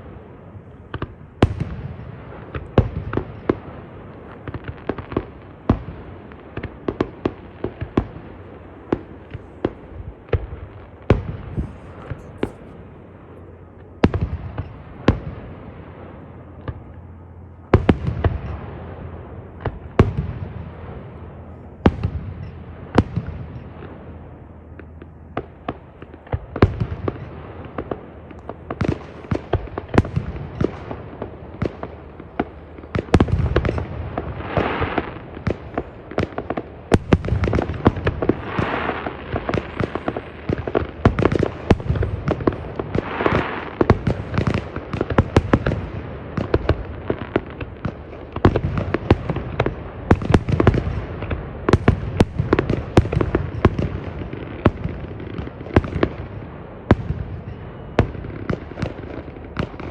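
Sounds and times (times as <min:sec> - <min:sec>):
fireworks bangs and booms: 0:00.0 - 0:59.9.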